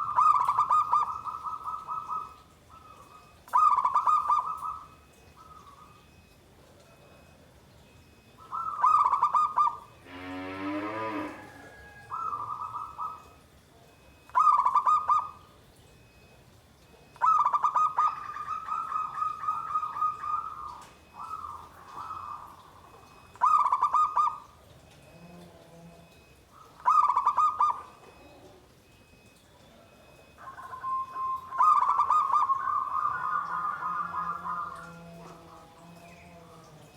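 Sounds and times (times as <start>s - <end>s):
dove cooing: 0.0s - 6.2s, 8.1s - 16.3s, 16.9s - 36.9s.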